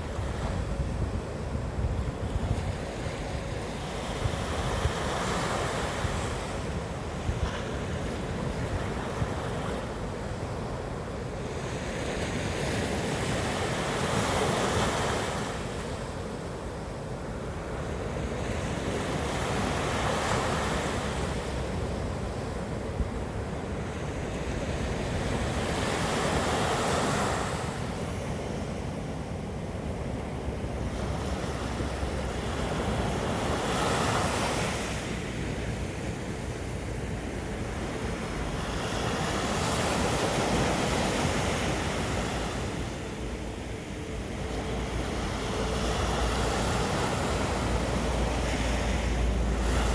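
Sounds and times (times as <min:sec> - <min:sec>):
waves breaking on shore: 0:00.0 - 0:49.9.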